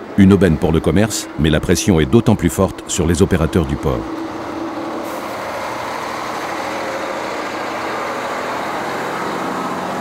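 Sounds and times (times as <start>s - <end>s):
lorry engine humming: 0.0s - 10.0s.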